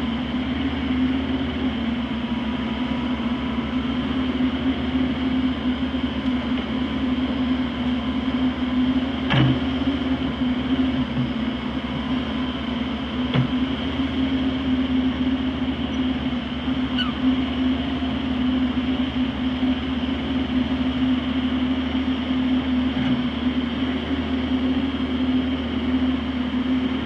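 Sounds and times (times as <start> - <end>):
heavy machinery engine running: 0.0 - 27.0.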